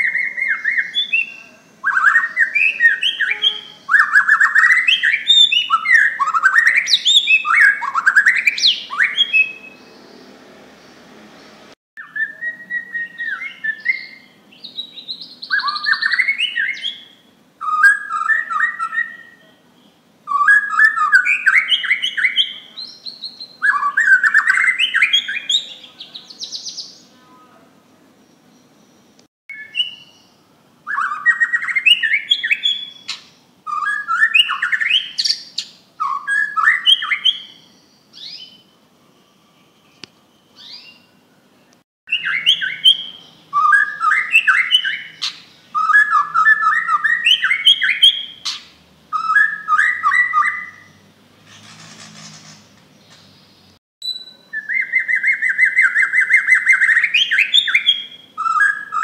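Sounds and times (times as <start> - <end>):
songbird singing whistled phrases: 0.0 - 9.9, 12.0 - 27.2, 29.5 - 41.4, 42.1 - 51.0, 54.0 - 59.0
bird trill: 0.0 - 10.2, 12.0 - 27.2, 28.4 - 41.5, 42.1 - 59.0.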